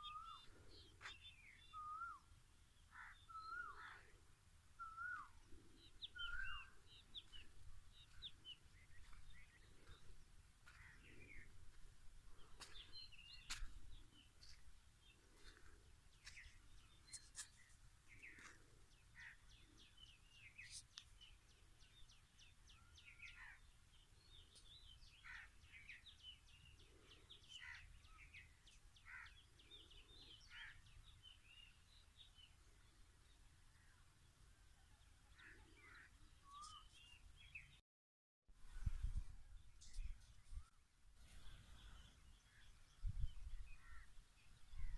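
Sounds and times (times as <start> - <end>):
small birds chirping: 0.0 - 37.8, 38.6 - 44.9.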